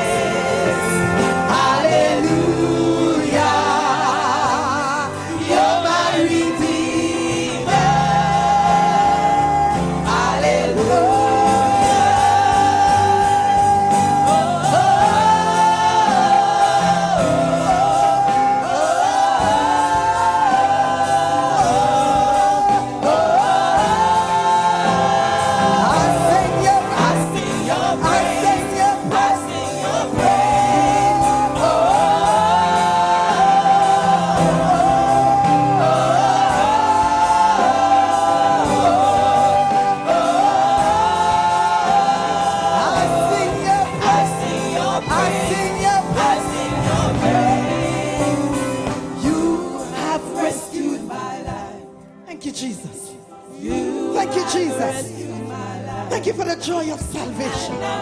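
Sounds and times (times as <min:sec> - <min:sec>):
women singing gospel: 0:00.0 - 0:52.2, 0:53.0 - 0:58.0
musical accompaniment: 0:00.0 - 0:58.0.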